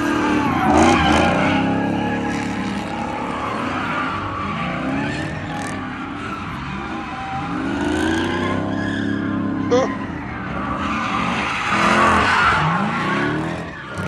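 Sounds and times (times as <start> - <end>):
engine revving: 0.0 - 14.0
tyres squealing on pavement: 0.0 - 14.0.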